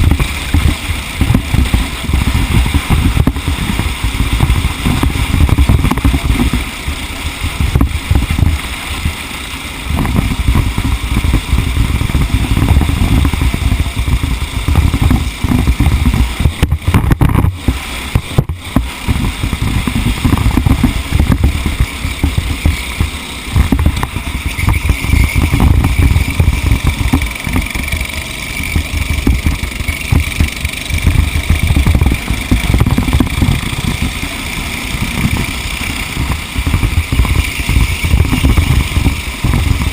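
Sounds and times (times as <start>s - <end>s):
racing kart engine revving: 0.0s - 39.9s.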